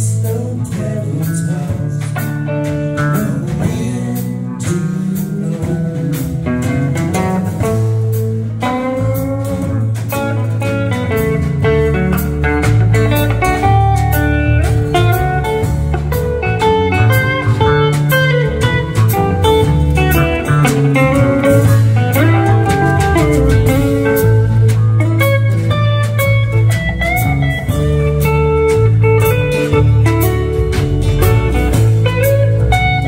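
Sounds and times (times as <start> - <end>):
live band playing instrumental: 0.0 - 33.0.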